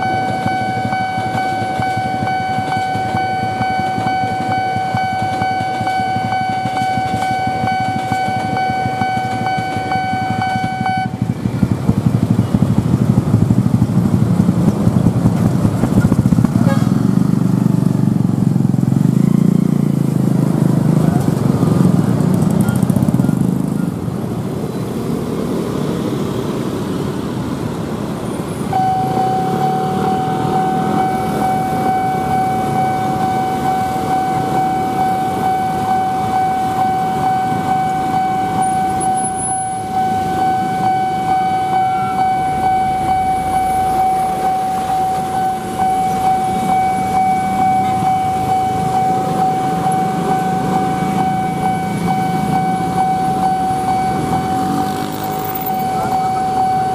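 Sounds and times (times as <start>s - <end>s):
level crossing warning tone: 0.0s - 20.1s, 28.3s - 56.9s
passing road traffic: 0.0s - 56.9s.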